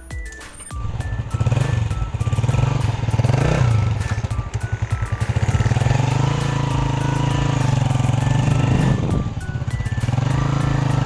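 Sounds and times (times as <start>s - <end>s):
motorcycle engine revving: 0.8s - 11.0s.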